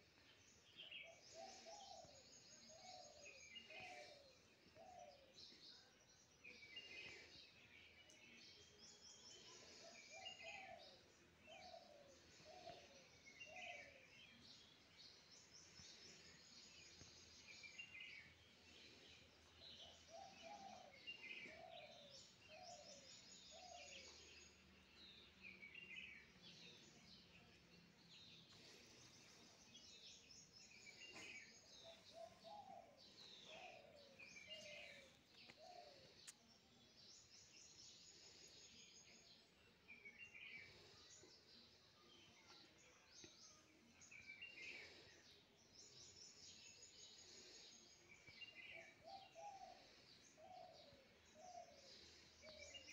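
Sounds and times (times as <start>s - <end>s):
faint birdsong: 0.0s - 52.9s.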